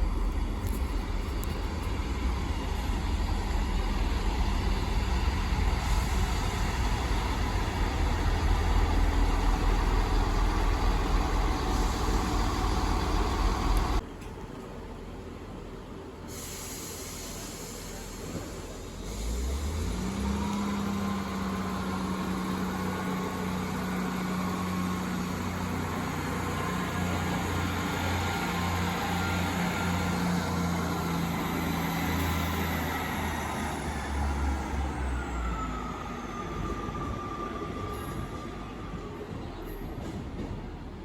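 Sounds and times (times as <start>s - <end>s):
diesel train engine drone: 0.0s - 41.0s.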